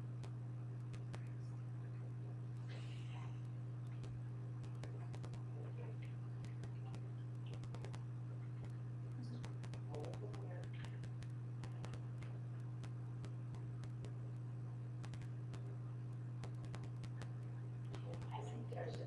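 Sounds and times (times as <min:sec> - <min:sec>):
light irregular clicks: 0:00.0 - 0:19.0
low electrical hum: 0:00.0 - 0:19.0.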